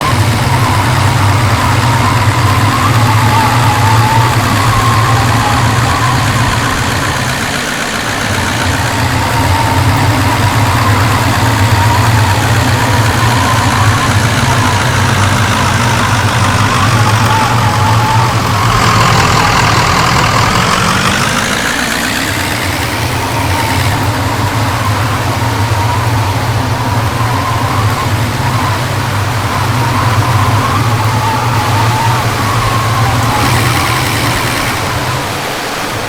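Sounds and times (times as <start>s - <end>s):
higher tone shifting pitch: 0.0s - 36.0s
vehicle engine humming: 0.0s - 36.0s.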